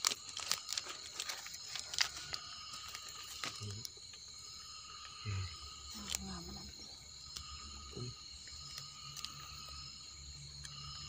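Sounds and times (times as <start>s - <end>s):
night insects trilling: 0.0s - 11.0s.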